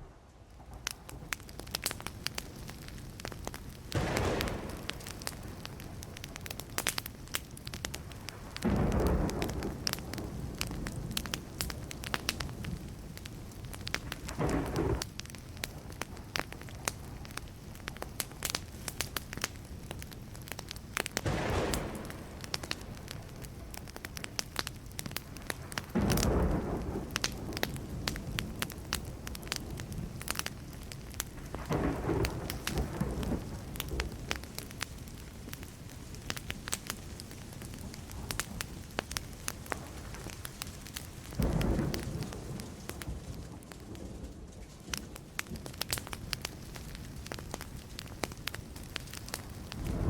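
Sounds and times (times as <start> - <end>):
thunder rumbling: 0.0 - 18.0, 21.1 - 50.0
wood fire crackling: 0.0 - 50.0.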